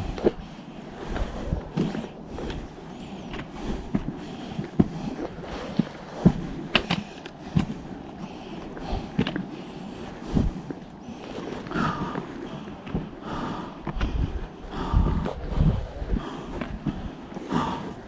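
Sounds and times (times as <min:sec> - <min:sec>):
footsteps on hiking trail: 0:00.0 - 0:18.0.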